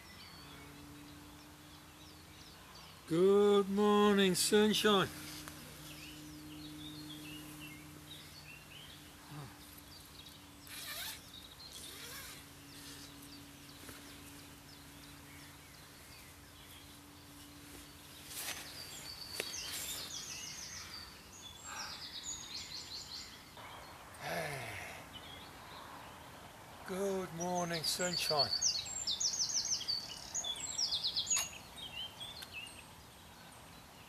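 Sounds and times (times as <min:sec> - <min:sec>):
faint low hum: 0:00.0 - 0:28.1
birds chirping: 0:00.0 - 0:34.0.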